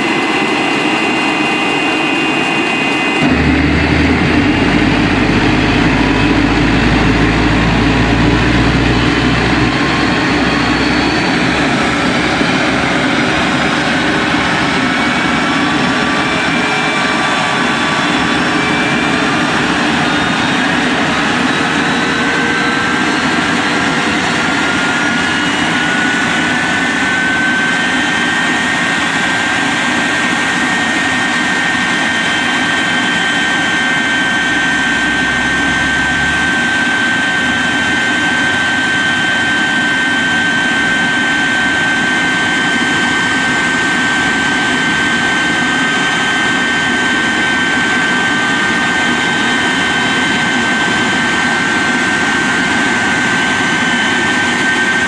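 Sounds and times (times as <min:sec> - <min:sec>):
jet engines idling with whine: 0:00.0 - 0:55.0.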